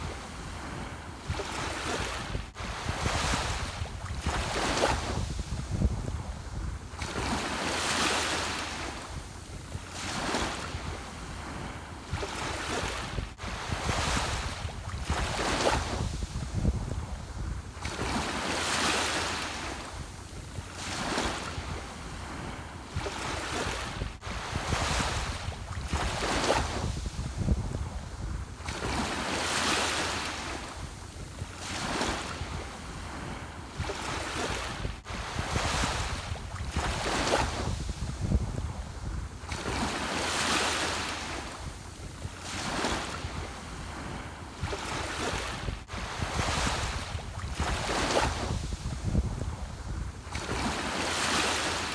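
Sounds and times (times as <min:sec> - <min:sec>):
waves breaking: 0:00.0 - 0:51.9.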